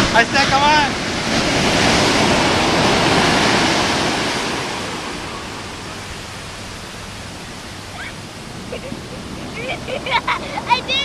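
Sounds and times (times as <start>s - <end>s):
ocean wave breaking on beach: 0.0s - 11.0s.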